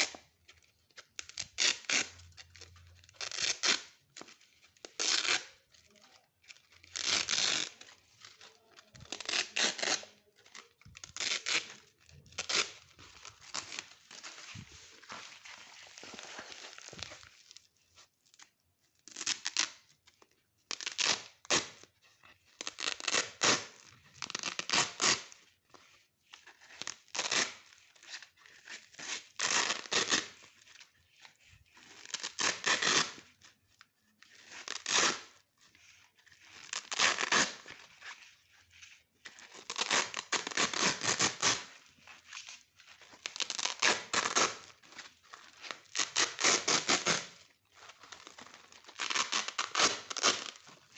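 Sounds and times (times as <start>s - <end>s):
velcro ripping apart: 0.0s - 0.2s, 1.2s - 17.5s, 19.0s - 19.9s, 20.7s - 21.9s, 22.5s - 33.4s, 34.2s - 50.9s.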